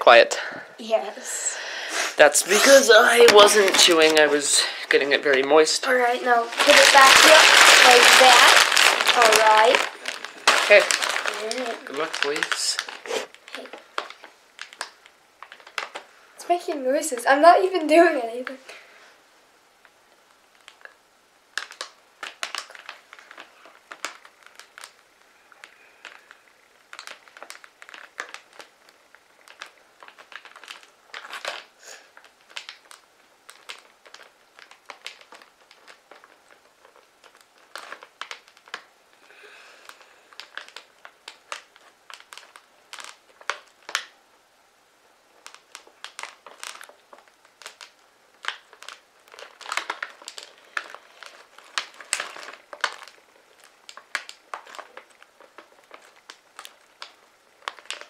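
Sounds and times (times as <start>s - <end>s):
plastic chip bag crinkling: 1.4s - 16.1s, 19.8s - 44.4s, 45.2s - 58.0s.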